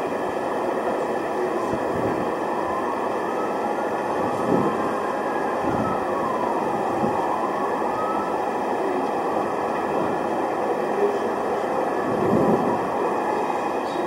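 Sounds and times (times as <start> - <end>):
city street noise: 0.0 - 14.0
distant emergency siren wailing: 0.0 - 14.0.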